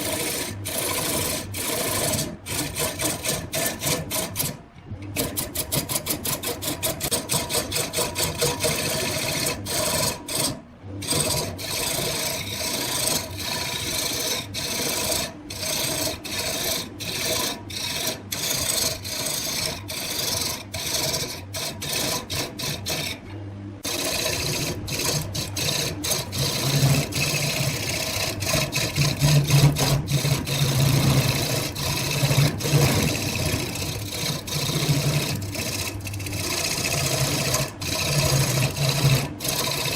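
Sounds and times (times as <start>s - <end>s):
tool scraping wood on lathe: 0.0s - 39.9s.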